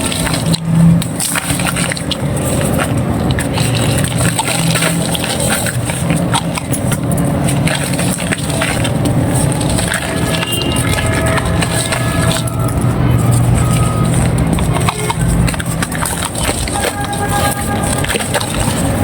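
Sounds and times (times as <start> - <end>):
dry clay crumbling: 0.0 - 19.0
low hum: 0.0 - 19.0.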